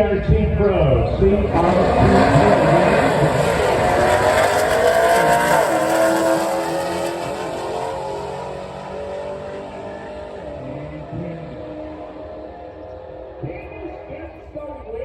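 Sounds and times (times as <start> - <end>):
race cars accelerating: 0.4 - 15.0.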